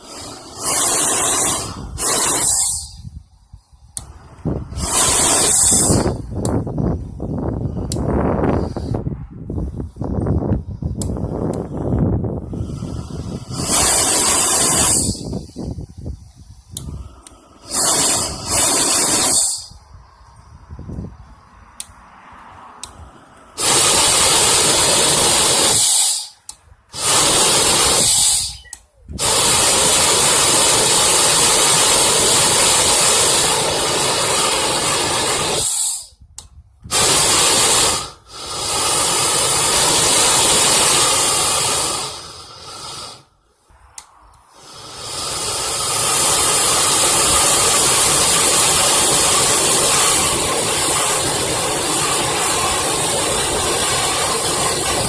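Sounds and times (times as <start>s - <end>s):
gas torch hissing: 0.0s - 22.0s, 22.8s - 55.0s.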